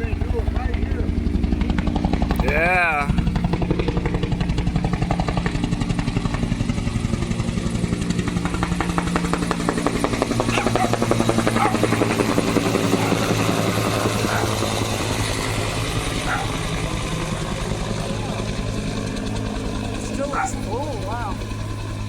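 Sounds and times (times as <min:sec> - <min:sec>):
helicopter engine hum: 0:00.0 - 0:22.0
helicopter rotor blades beating: 0:00.0 - 0:22.0.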